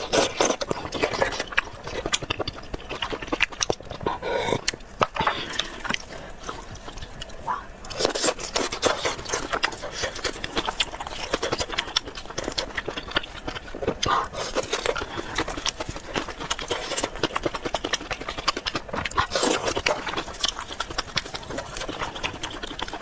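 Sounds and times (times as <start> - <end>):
person chewing snails: 0.0 - 23.0.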